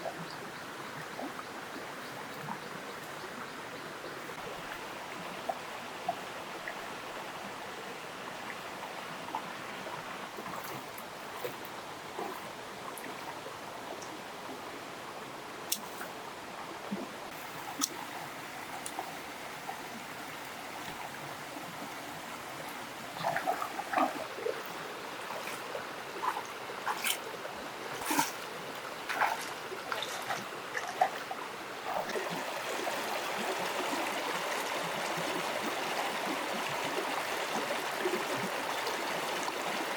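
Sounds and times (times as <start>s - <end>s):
trickling water: 0.0s - 14.8s, 15.7s - 39.9s.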